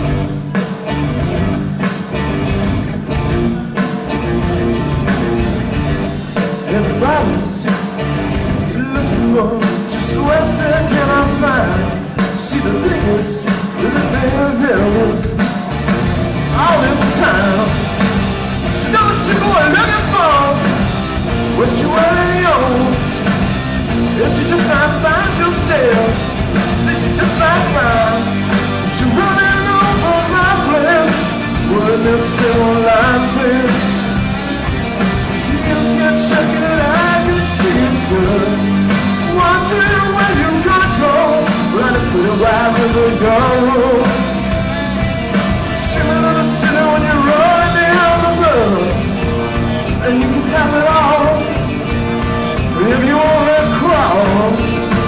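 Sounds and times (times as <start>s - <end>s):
bass guitar: 0.0s - 55.0s
drum kit with cymbals: 0.0s - 55.0s
electric guitars: 0.0s - 55.0s.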